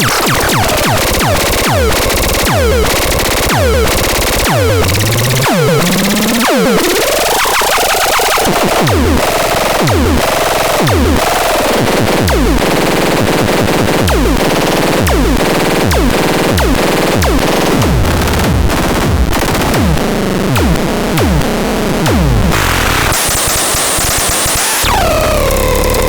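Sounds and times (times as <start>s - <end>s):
harsh distorted synthesizer noise: 0.0s - 26.0s.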